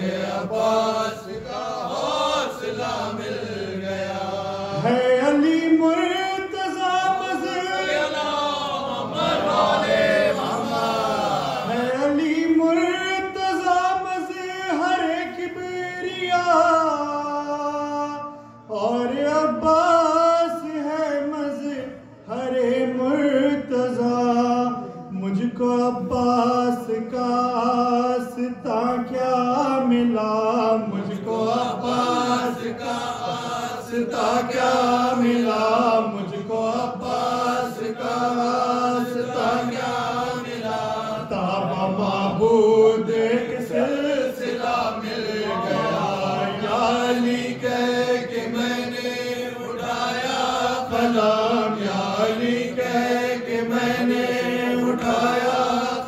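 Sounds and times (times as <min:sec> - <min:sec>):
men chanting devotional song: 0:00.0 - 0:56.0.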